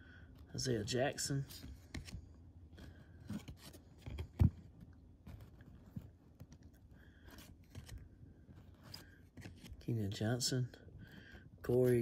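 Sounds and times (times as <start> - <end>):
trading cards being handled: 0.5 - 10.4.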